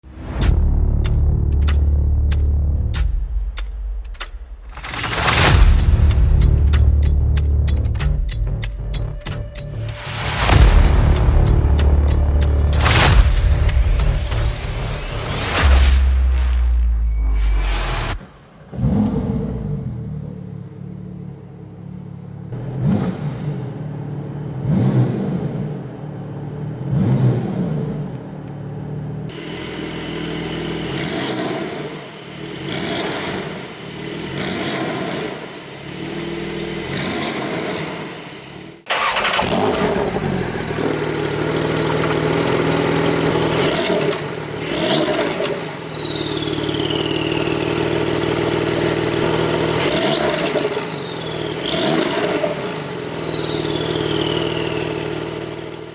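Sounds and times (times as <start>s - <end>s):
sports car engine revving: 9.9s - 55.9s.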